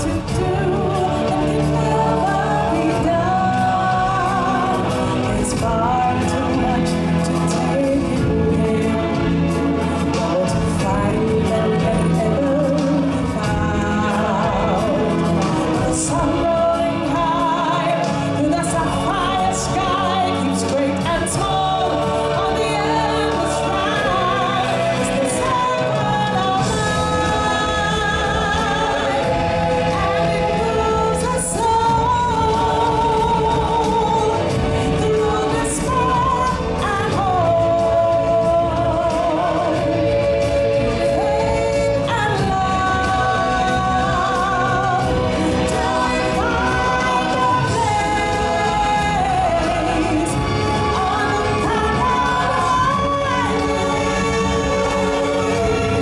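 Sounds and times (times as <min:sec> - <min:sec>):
voices singing together: 0:00.0 - 0:56.0.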